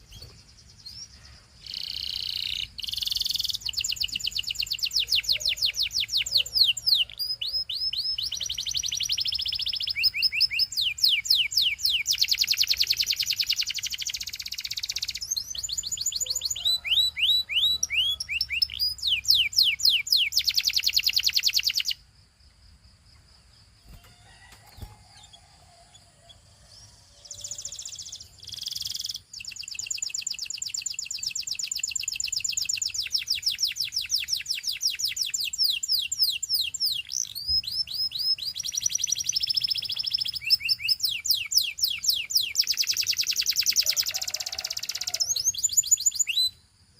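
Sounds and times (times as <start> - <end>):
canary singing trills: 0.0 - 22.0, 23.8 - 46.6.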